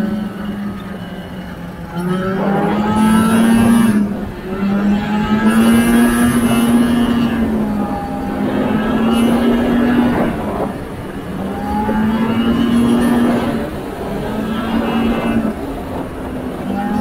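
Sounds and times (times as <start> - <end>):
two-stroke snowmobile engine: 0.0 - 17.0.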